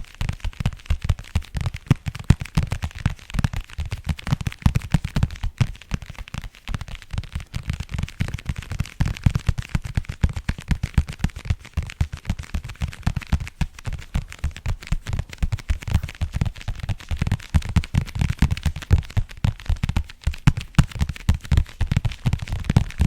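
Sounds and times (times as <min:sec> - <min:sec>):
fingertip tapping with thumps: 0:00.4 - 0:23.0.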